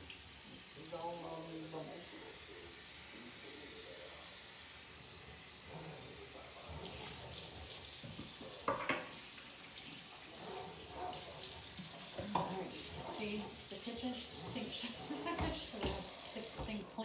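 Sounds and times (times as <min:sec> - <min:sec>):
faucet running into sink: 0:00.0 - 0:17.0.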